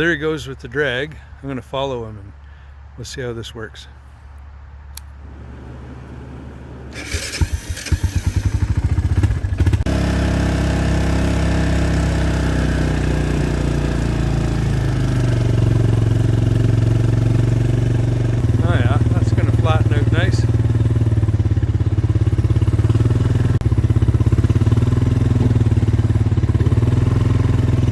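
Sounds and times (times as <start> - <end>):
truck engine cranking and starting: 5.3 - 27.9.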